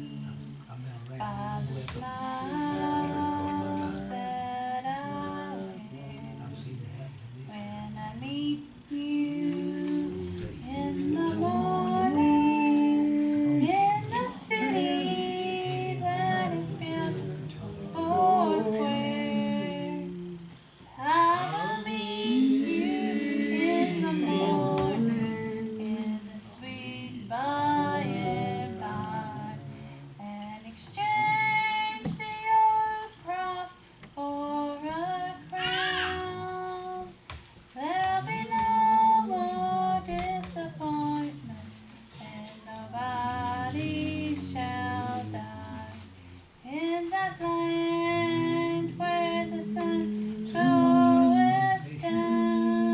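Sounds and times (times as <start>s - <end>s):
high voice singing gospel: 0.0s - 52.9s.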